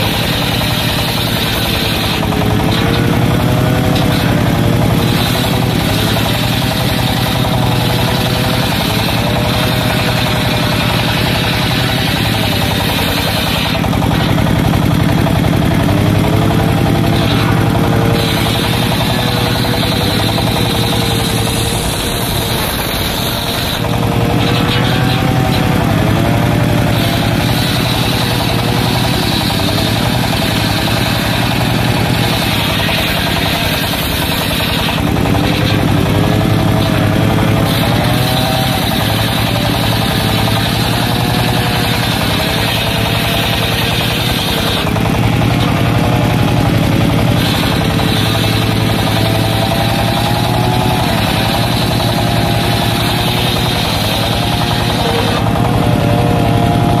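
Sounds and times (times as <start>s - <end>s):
circular saw ripping wood: 0.0s - 57.0s
diesel engine running: 0.0s - 57.0s.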